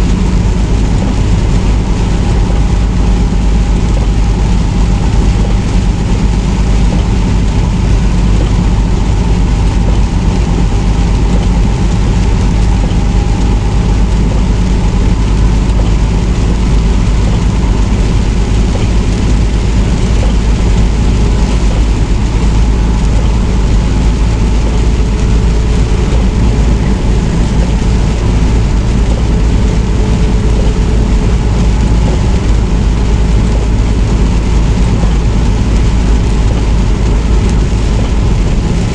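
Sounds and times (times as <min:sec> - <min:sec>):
truck engine and tyres rumbling: 0:00.0 - 0:38.9.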